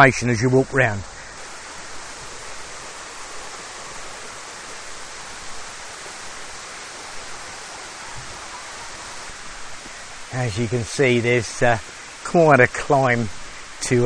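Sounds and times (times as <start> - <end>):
flowing water rushing: 0.0 - 14.0.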